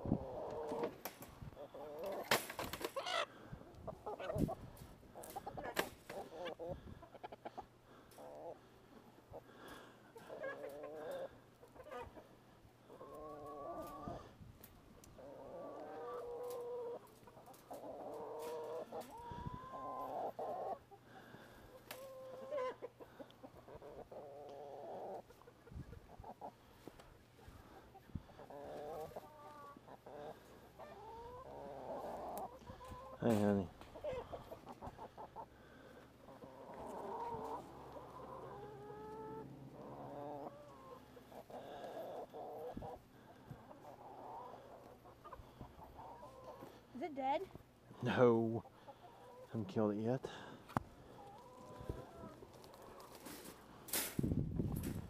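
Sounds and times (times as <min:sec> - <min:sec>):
chickens squawking and clucking: 0:00.0 - 0:49.7, 0:50.3 - 0:55.0.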